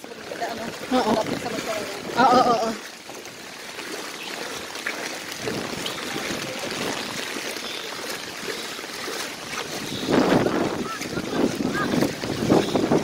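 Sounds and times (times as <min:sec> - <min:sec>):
floodwater rushing and splashing: 0:00.0 - 0:13.0.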